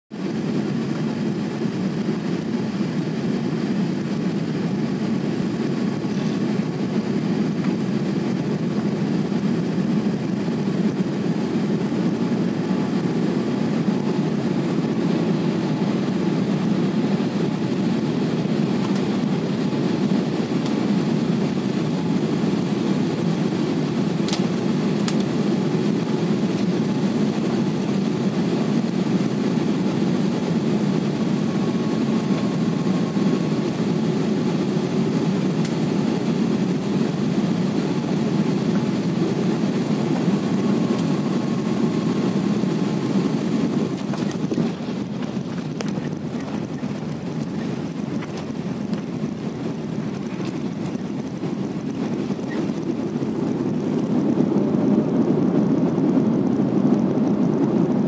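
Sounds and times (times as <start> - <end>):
jet airliner cabin rumble: 0.1 - 58.0.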